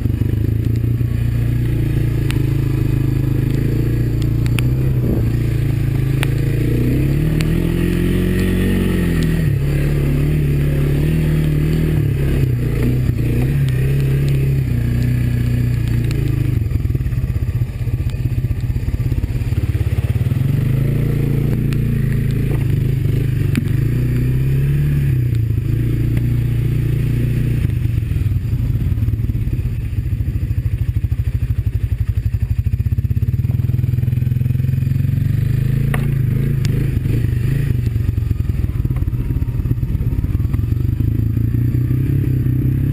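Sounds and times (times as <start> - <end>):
quad bike engine running: 0.0 - 42.9.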